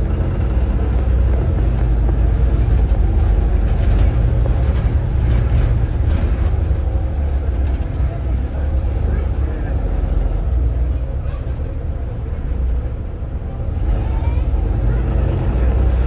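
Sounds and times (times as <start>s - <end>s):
bus diesel engine rumble: 0.0s - 16.0s
road and body noise: 0.0s - 16.0s.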